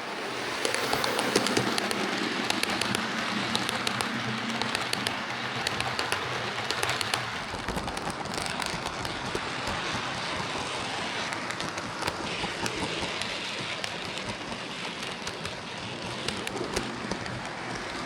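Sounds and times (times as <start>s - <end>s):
model train motor whirring: 0.0s - 18.0s
wheels clicking on rails: 0.0s - 18.0s.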